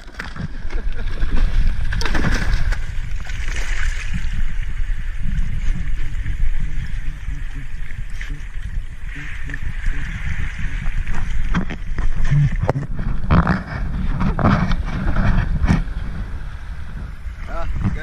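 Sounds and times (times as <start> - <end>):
low churning rumble: 0.0 - 18.0
water sloshing and splashing: 0.0 - 18.0.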